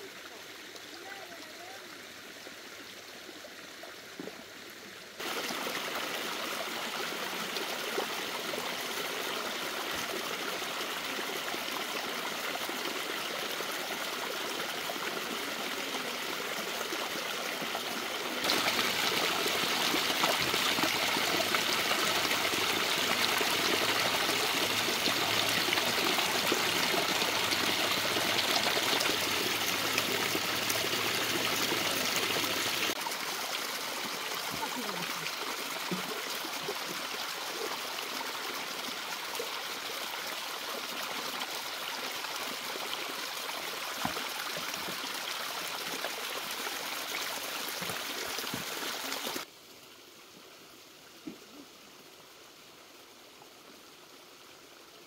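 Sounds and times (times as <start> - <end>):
stream water splashing: 0.0 - 49.5.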